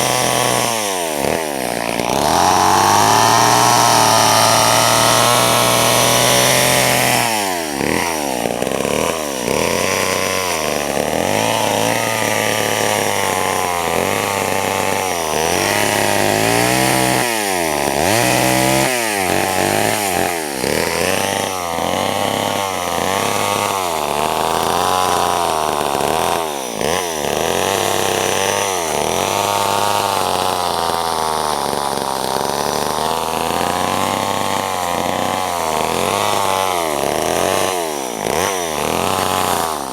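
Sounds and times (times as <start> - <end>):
two-stroke chainsaw running: 0.0 - 39.9.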